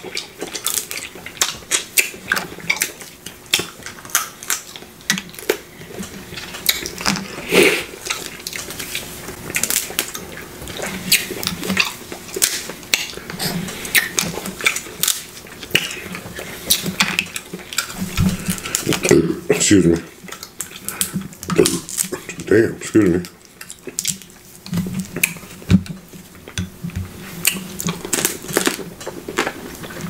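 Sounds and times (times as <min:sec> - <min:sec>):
crab shells crackling and snapping: 0:00.0 - 0:07.4, 0:08.0 - 0:26.8, 0:27.4 - 0:30.0
wet chewing: 0:00.0 - 0:30.0.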